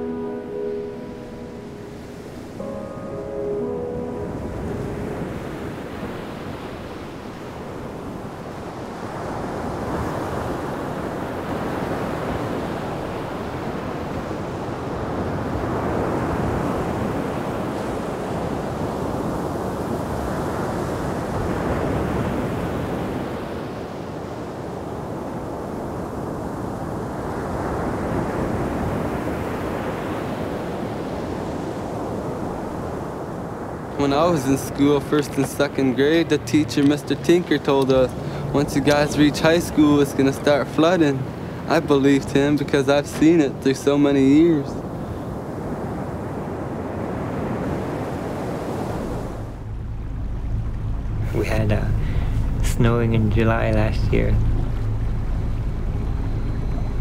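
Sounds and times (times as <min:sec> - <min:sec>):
sea surf washing ashore: 0:00.0 - 0:57.0
wind: 0:00.0 - 0:57.0.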